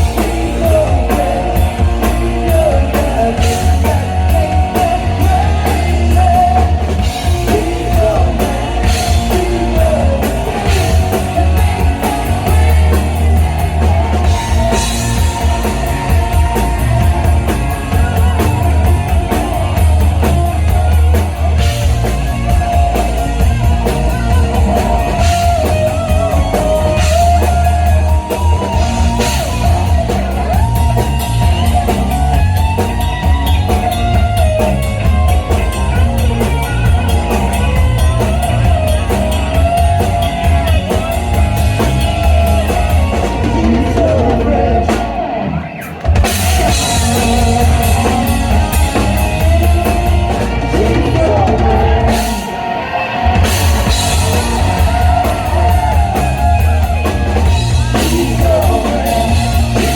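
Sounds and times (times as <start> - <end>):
person singing: 0.0 - 34.5, 37.5 - 59.9
drum kit: 0.0 - 59.9
electric guitar: 0.0 - 59.9.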